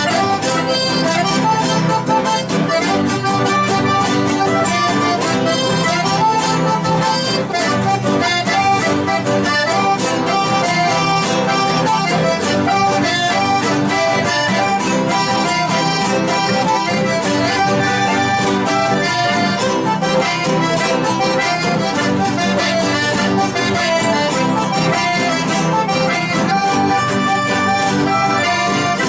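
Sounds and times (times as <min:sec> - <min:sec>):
accordion melody: 0:00.0 - 0:29.0
strummed guitar: 0:00.0 - 0:29.0.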